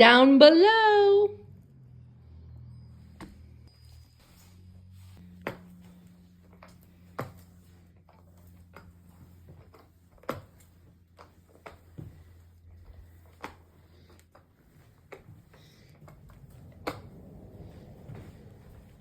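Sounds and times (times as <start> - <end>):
steady low hum: 1.3 - 19.0.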